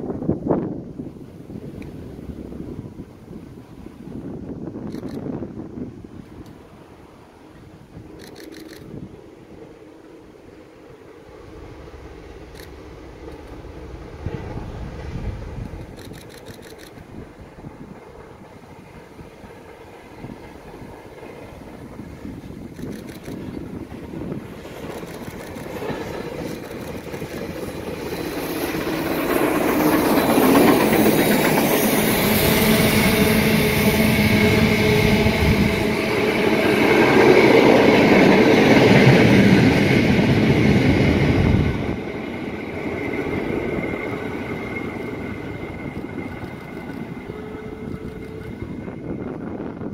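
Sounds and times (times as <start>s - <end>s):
steam train passing on rails: 0.0s - 49.9s.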